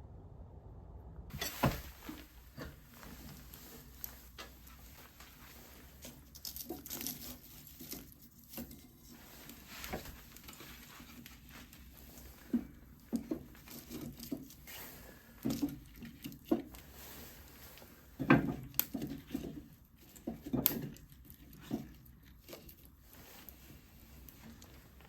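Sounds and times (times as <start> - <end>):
rustling: 1.3 - 25.0.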